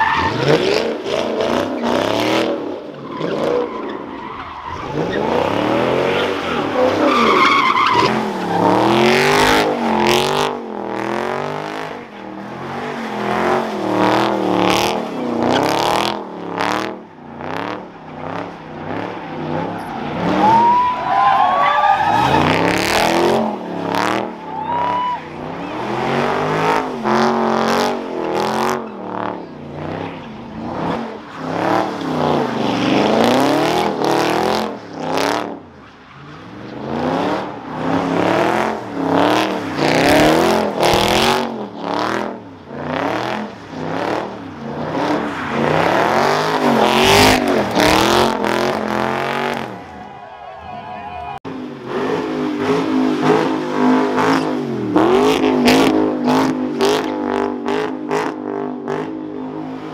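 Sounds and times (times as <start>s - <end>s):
car engine revving: 0.0s - 21.2s, 21.8s - 50.0s, 51.3s - 59.9s
tyres screeching on asphalt: 0.0s - 57.6s.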